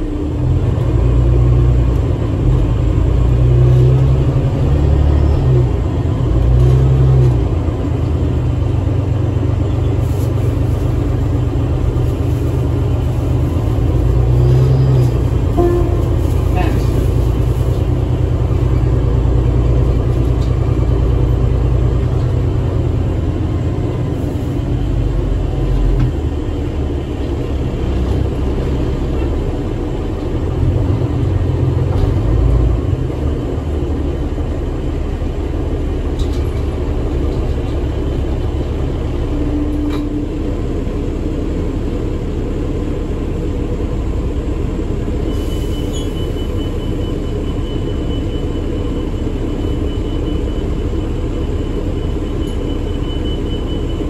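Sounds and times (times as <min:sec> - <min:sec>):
bus engine rumble: 0:00.0 - 0:54.0
road noise: 0:00.0 - 0:54.0.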